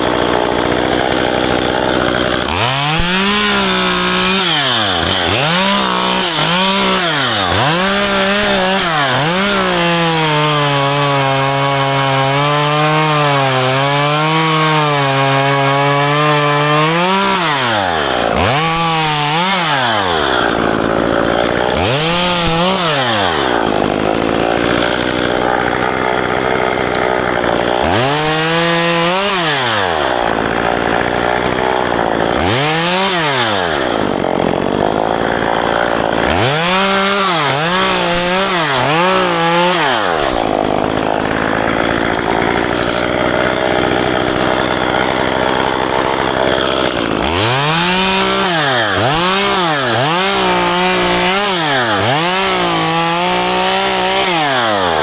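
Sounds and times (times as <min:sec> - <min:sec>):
chainsaw engine revving: 0:00.0 - 0:55.0
chainsaw sawing through wood: 0:00.0 - 0:55.0.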